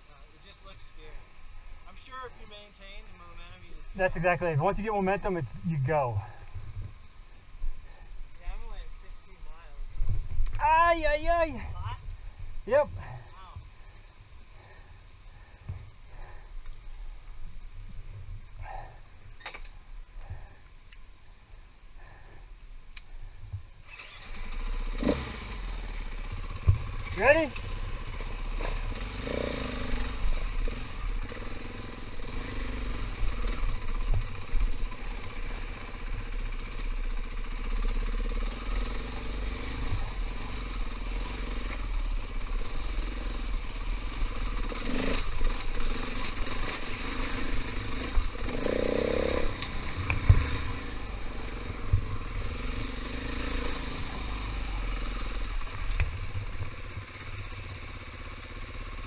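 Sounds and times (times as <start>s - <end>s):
dirt bike engine running: 0.0s - 22.6s, 23.2s - 59.0s.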